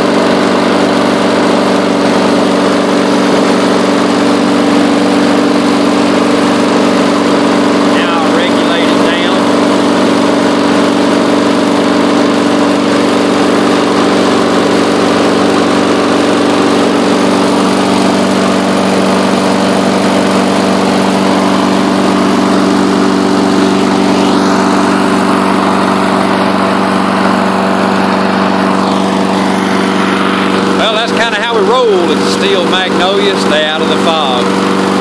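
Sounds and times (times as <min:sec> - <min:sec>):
lawn mower engine running: 0:00.0 - 0:35.0.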